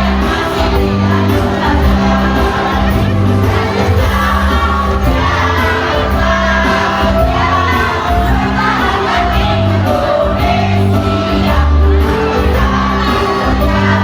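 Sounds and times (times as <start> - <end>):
mixed choir singing: 0.0 - 14.0
musical accompaniment with bass: 0.0 - 14.0.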